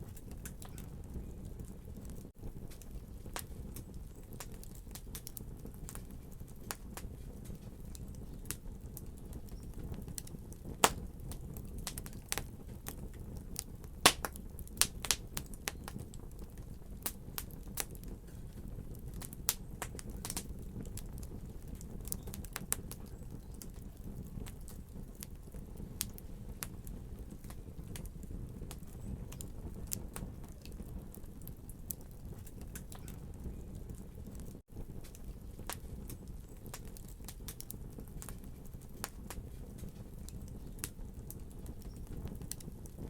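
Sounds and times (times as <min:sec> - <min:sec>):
low rumble of burning: 0:00.0 - 0:43.0
wood fire crackling: 0:00.0 - 0:43.0.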